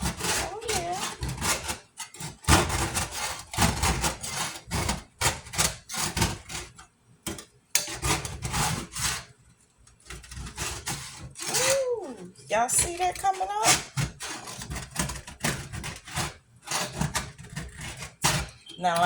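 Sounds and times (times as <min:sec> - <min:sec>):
scrubbing a stovetop: 0:00.0 - 0:06.8, 0:07.8 - 0:19.0.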